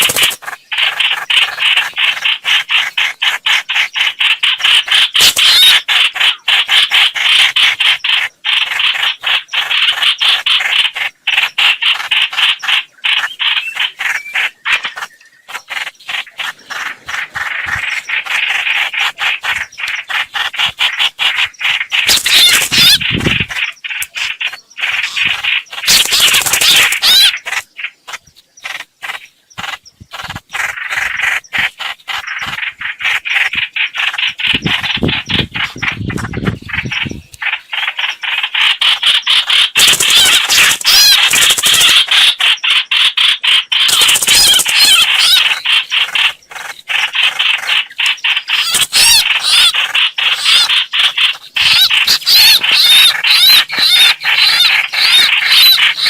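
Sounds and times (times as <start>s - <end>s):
bird chattering call: 0.0s - 56.0s.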